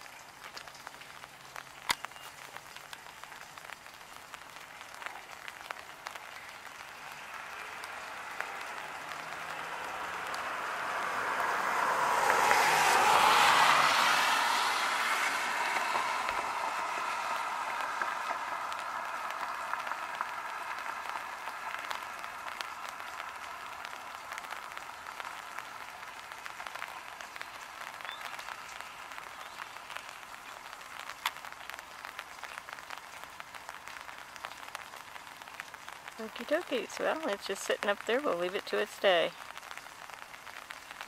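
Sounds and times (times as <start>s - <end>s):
car tyres on wet road: 0.0s - 41.0s
light rain pattering: 0.0s - 41.0s.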